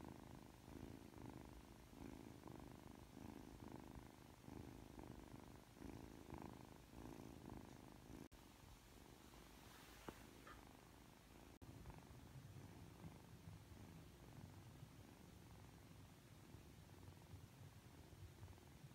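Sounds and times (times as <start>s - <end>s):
kitten purring softly: 0.0s - 18.9s.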